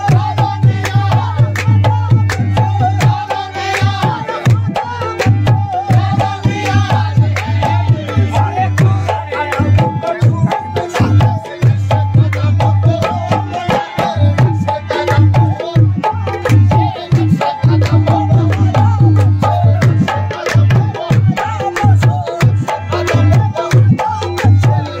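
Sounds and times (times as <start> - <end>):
fast tabla drumming: 0.0 - 25.0.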